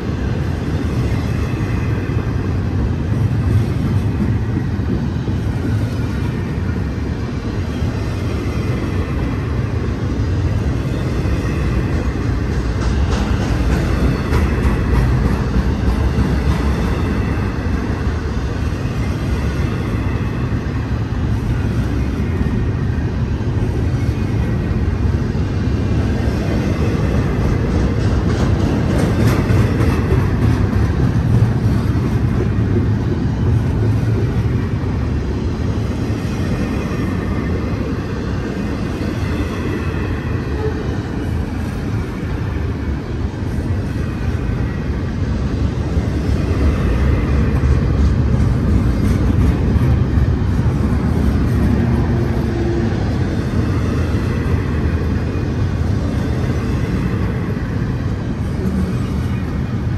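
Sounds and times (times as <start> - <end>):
railcars clattering: 0.0 - 59.9
train wheels rumbling on rail: 0.0 - 59.9.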